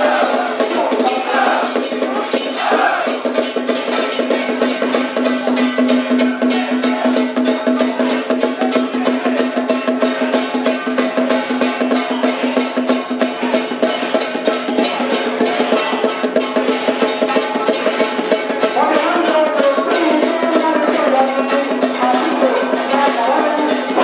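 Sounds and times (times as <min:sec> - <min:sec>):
drums and cymbals beating: 0:00.0 - 0:24.0.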